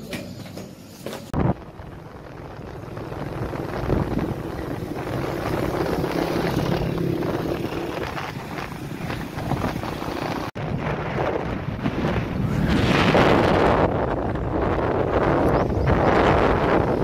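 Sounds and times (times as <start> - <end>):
road noise: 0.0 - 17.0
vehicle engine hum: 0.6 - 17.0
wind rushing over microphone: 1.3 - 17.0.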